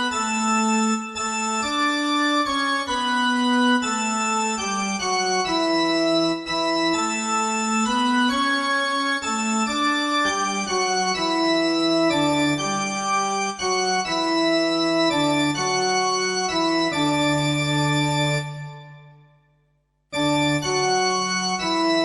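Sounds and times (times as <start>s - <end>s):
organ music: 0.0s - 19.2s, 20.2s - 22.0s.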